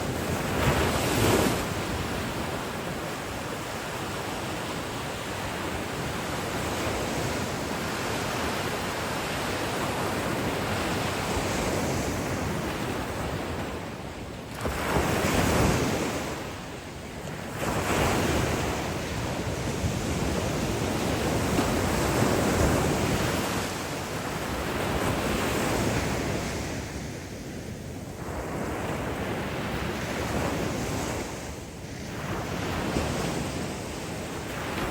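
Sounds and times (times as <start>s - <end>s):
waves breaking on beach: 0.0s - 34.9s
wind buffeting microphone: 0.0s - 34.9s.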